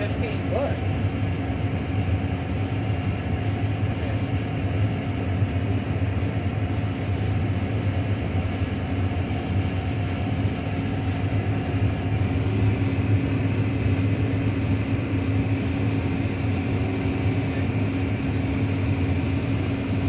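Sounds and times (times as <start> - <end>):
farm machinery engine drone: 0.0 - 20.0.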